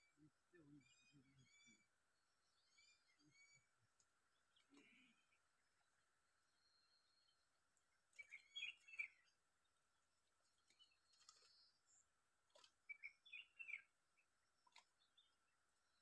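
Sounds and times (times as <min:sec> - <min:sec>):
faint bird chirps: 0:00.0 - 0:09.8, 0:10.4 - 0:16.0.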